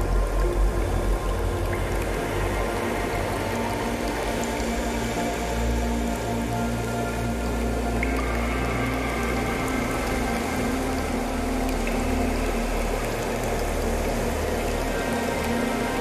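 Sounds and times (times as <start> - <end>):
soft sustained tones: 0.0 - 16.0
water bubbling and gurgling: 0.0 - 16.0.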